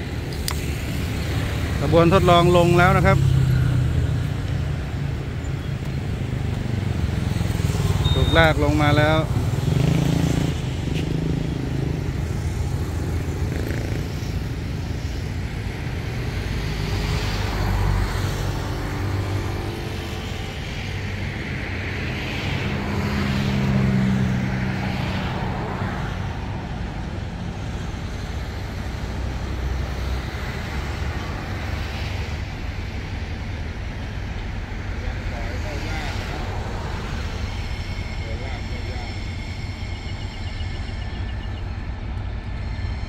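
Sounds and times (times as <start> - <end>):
train rumbling past: 0.0 - 43.0.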